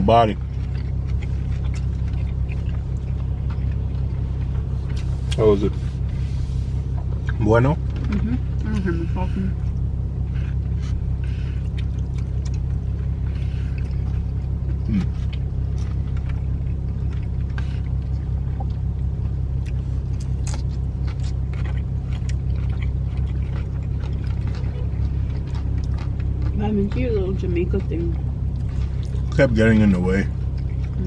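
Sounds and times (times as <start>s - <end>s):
car engine idling rumble: 0.0s - 31.0s.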